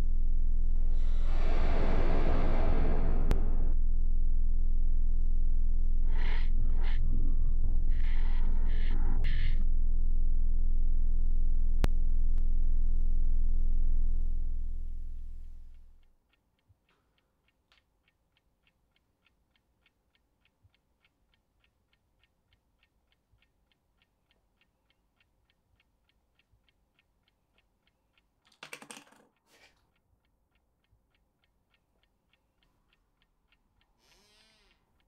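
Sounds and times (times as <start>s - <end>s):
faint steady ticking: 3.3s - 28.5s, 29.3s - 35.0s.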